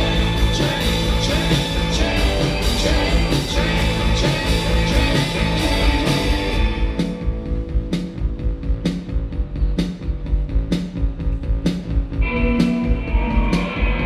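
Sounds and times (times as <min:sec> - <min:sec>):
live rock band playing: 0:00.0 - 0:10.0, 0:11.7 - 0:14.0.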